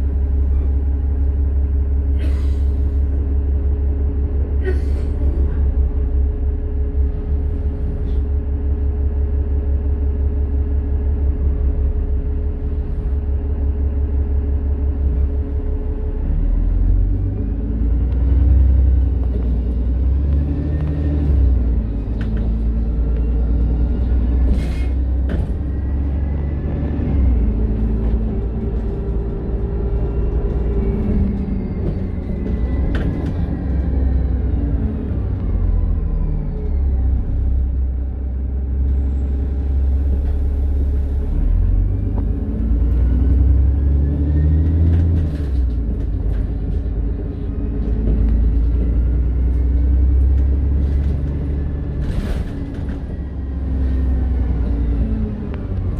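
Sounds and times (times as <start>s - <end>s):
bus engine rumbling: 0.0s - 55.9s.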